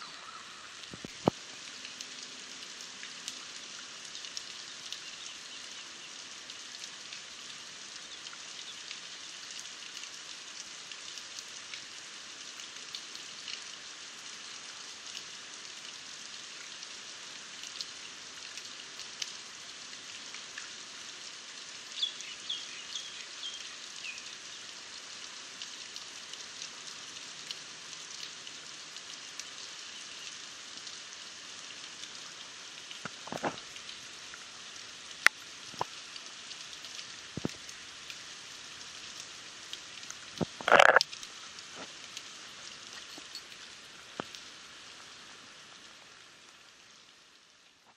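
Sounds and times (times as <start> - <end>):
rain falling on water: 0.0 - 47.9.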